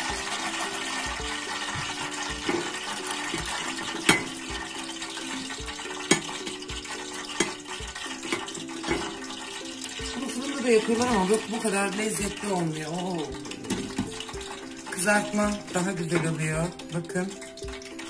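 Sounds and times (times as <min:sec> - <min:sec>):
hot oil hissing: 0:00.0 - 0:18.0
wire basket clinking on plate: 0:02.1 - 0:18.0.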